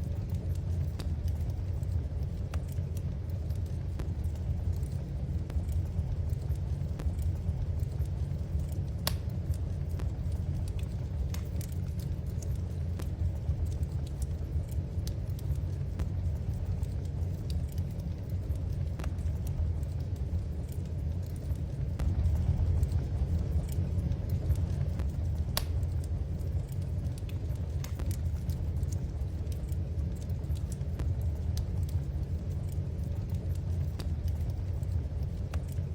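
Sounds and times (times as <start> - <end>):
fire popping and snapping: 0.0 - 35.9
low fire rumble: 0.0 - 35.9
wood fire crackling: 0.0 - 35.9.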